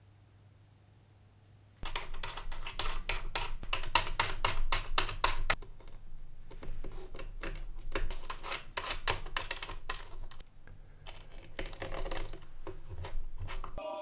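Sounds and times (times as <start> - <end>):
packaging clicks and taps: 1.8 - 13.8.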